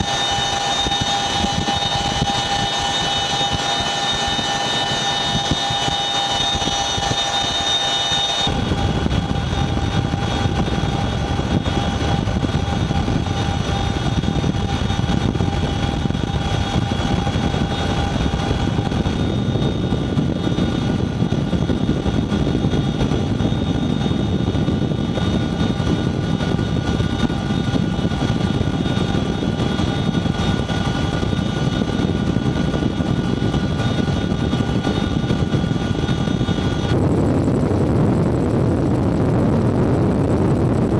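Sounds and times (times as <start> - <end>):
heavy helicopter rotor noise: 0.0 - 40.9
turbine engine whine: 0.0 - 40.9.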